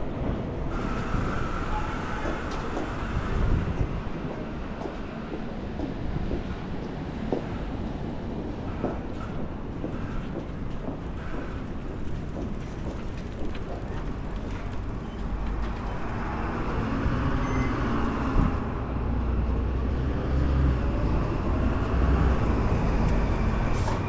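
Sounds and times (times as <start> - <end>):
vehicles passing on road: 0.0 - 24.0.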